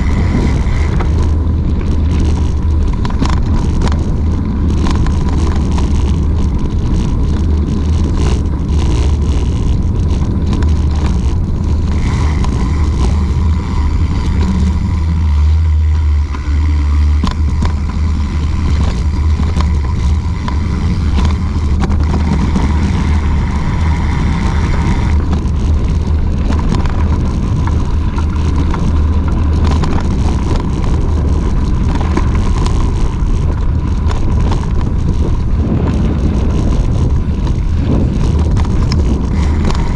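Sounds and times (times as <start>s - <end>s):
bike clicks and rattles: 0.0s - 39.9s
tyre noise on pavement and gravel: 0.0s - 39.9s
wind buffeting microphone: 0.0s - 39.9s.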